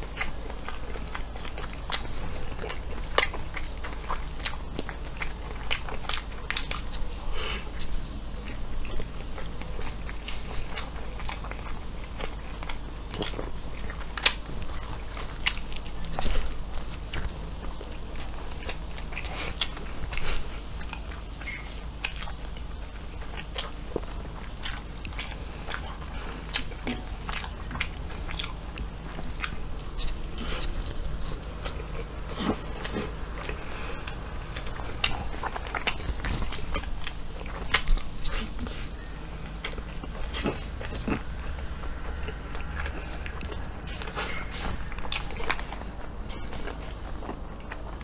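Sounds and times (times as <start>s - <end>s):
person chewing crunchy pastry: 0.0s - 48.0s.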